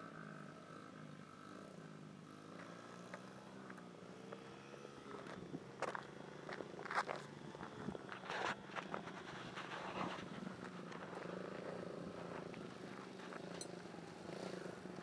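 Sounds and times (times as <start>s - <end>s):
distant dirt bike engine: 0.0s - 15.0s.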